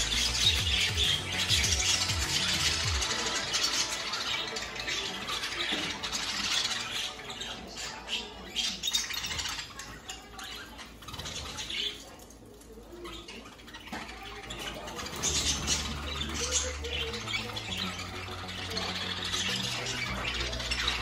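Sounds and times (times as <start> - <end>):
budgerigars chattering and squawking: 0.0 - 21.0.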